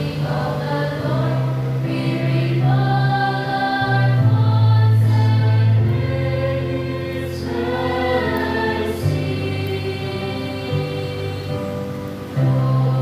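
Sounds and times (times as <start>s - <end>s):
choir singing a slow hymn: 0.0s - 13.0s
held accompaniment chords: 0.0s - 13.0s.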